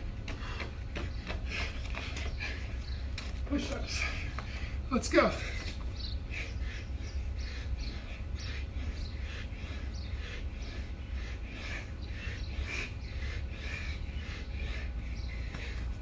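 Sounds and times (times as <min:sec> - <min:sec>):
birds chirping and calling: 0:00.0 - 0:16.0
steady low rumble: 0:00.0 - 0:16.0.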